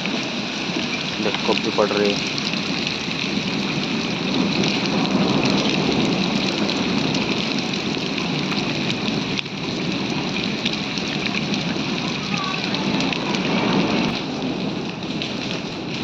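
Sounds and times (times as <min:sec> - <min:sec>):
hailstones ticking: 0:00.0 - 0:16.0
heavy rain falling: 0:00.0 - 0:16.0.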